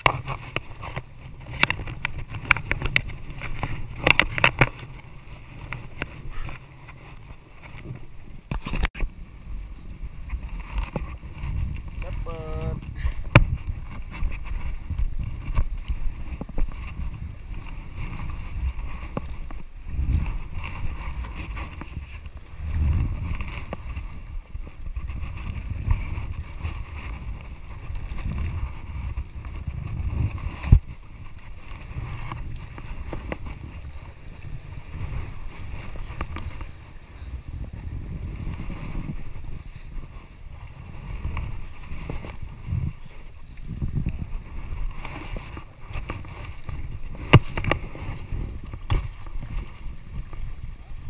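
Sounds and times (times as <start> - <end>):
fishing net hauled by hand: 0.0 - 51.0
wind rumbling on microphone: 0.0 - 51.0.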